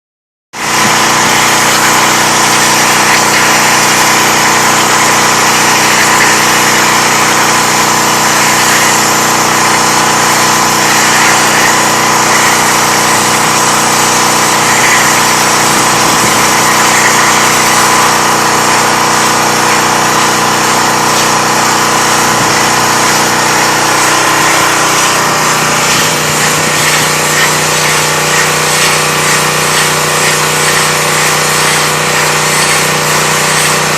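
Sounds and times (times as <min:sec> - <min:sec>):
pressure washer motor hum: 0:00.6 - 0:33.9
water spray hissing: 0:00.6 - 0:33.9.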